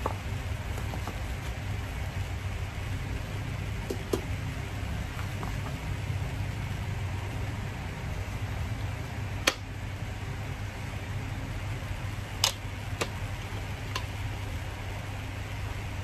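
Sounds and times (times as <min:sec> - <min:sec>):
fan hum: 0:00.0 - 0:16.0.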